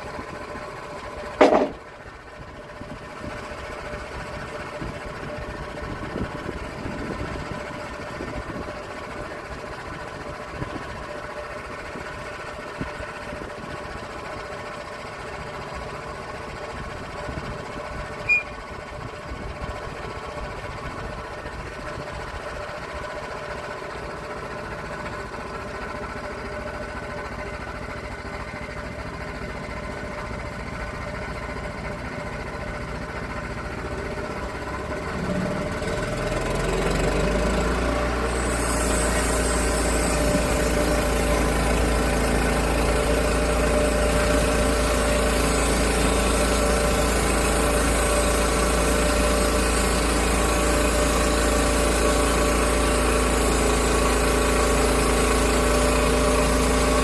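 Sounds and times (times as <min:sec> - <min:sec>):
sawmill engine sawing log: 0:00.0 - 0:57.0.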